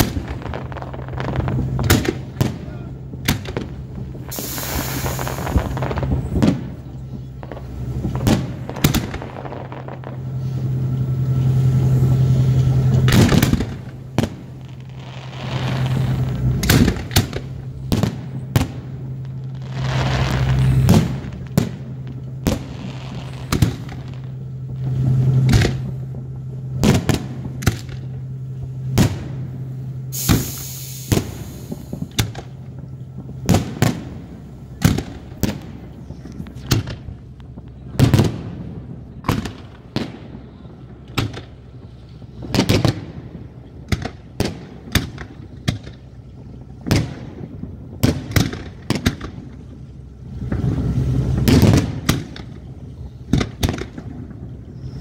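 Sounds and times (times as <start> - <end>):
fireworks bursting: 0.0 - 55.0
steady low hum: 0.0 - 55.0.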